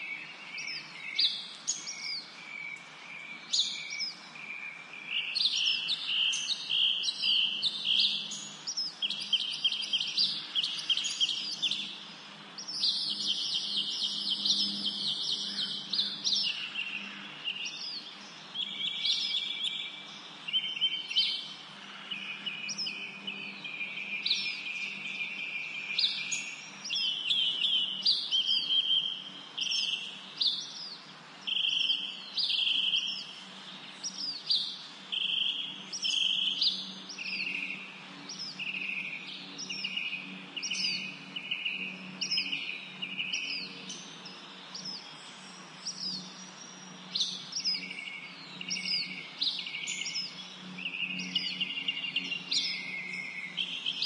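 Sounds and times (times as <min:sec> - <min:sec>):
songbirds singing and trilling: 0:00.0 - 0:54.0.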